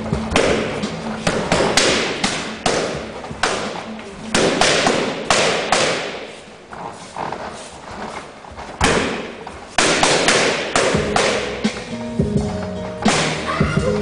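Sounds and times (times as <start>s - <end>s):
boxing gloves hitting focus mitts: 0.2s - 11.9s, 12.5s - 13.5s.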